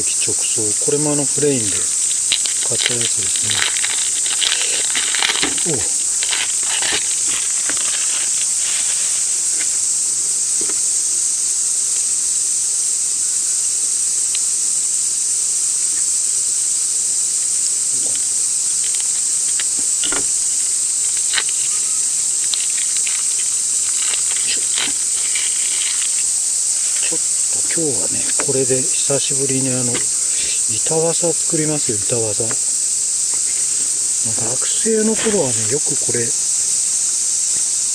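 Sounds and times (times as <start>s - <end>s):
cicadas shrilling: 0.0s - 37.9s.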